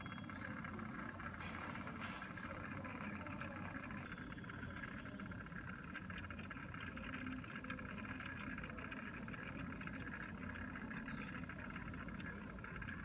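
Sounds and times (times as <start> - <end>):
faint rapid ticking: 0.0 - 13.0.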